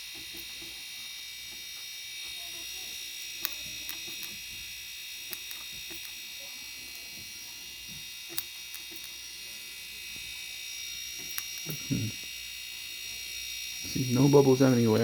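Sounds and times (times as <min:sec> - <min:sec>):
compressor humming and buzzing: 0:00.0 - 0:15.0.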